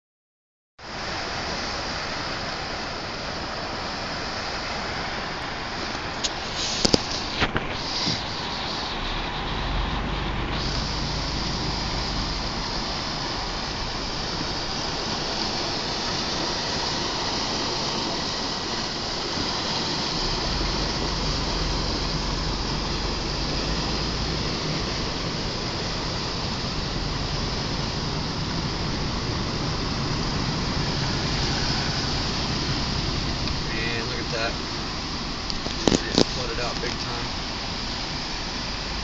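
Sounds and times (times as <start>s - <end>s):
car engine and tyre rumble: 0.8s - 39.0s
floodwater rushing: 0.8s - 39.0s.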